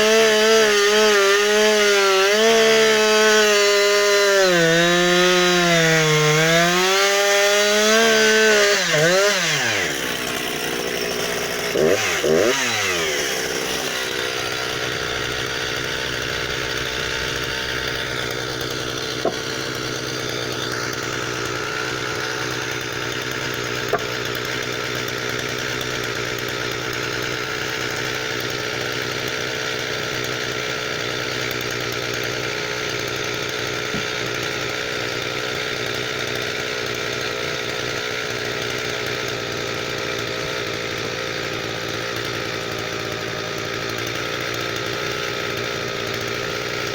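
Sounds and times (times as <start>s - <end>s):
chainsaw at high revs: 0.0s - 46.9s.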